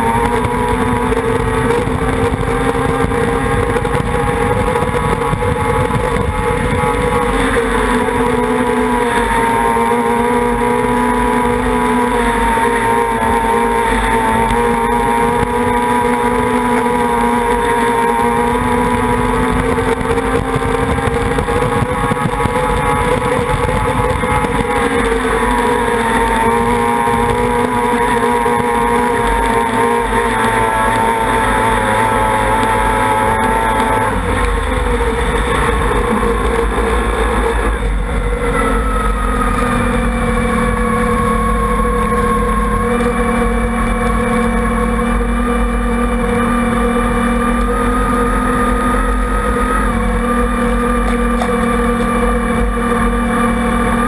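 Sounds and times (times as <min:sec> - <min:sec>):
outboard motor at high revs: 0:00.0 - 0:54.0.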